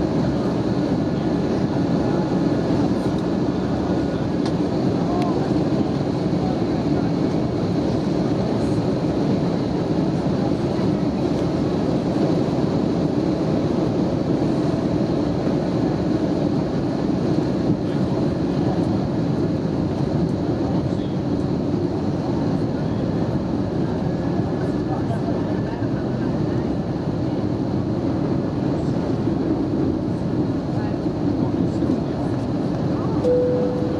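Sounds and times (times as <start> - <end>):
airliner cabin drone: 0.0 - 33.9.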